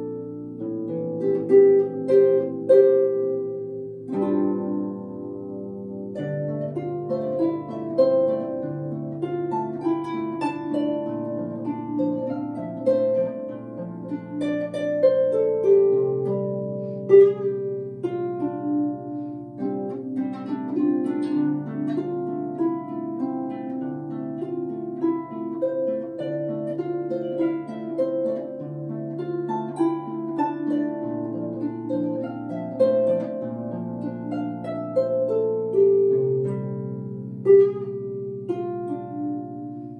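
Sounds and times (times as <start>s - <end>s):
solo harp playing: 0.0s - 39.9s.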